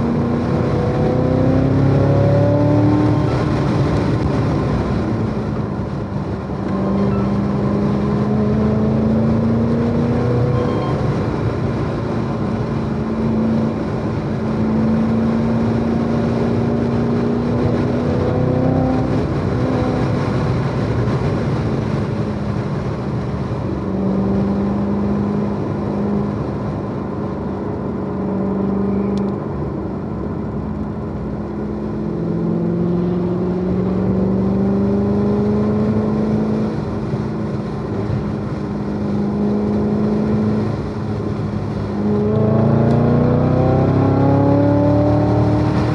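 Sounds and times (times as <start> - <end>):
car engine accelerating hard: 0.0 - 45.9
road noise rushing: 0.0 - 45.9.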